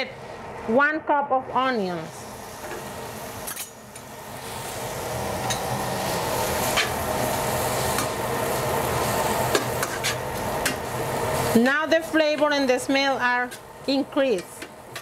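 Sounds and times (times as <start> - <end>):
onions sizzling in grease: 1.9 - 15.0.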